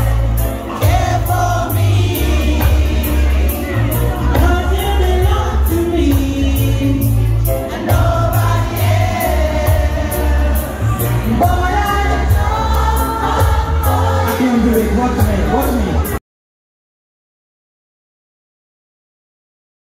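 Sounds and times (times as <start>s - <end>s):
reggae music over loudspeakers: 0.0s - 16.2s.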